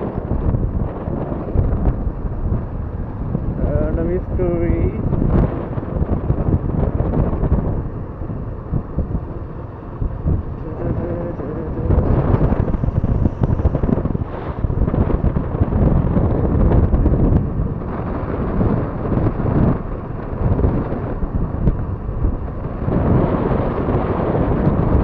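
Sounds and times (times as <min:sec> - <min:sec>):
motorcycle running: 0:00.0 - 0:25.0
road noise: 0:00.0 - 0:25.0
wind buffeting microphone: 0:00.0 - 0:25.0.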